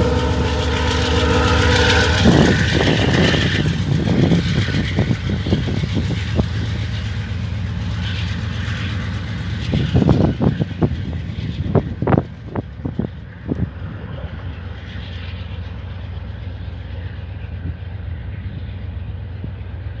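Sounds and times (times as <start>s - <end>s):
diesel train low rumble: 0.0s - 20.0s
sharp train clacks: 0.0s - 20.0s.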